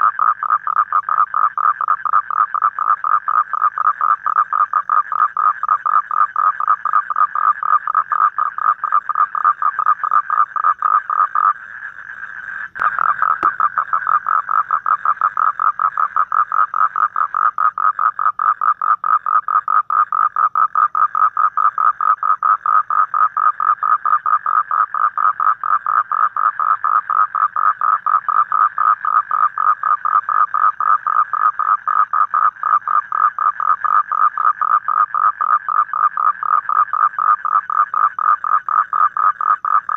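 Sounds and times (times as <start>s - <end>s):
toad trilling: 0.0s - 39.9s.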